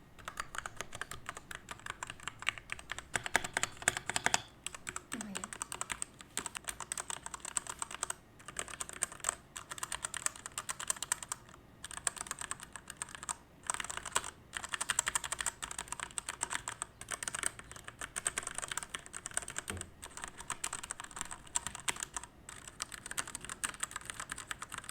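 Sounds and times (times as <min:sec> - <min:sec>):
typing on mechanical keyboard: 0:00.2 - 0:24.9.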